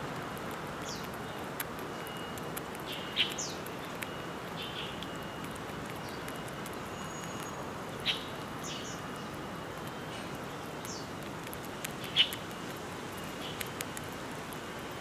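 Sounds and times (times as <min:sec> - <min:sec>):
faint clicks: 0:00.1 - 0:07.5, 0:09.8 - 0:14.6
birds chirping: 0:00.8 - 0:13.7.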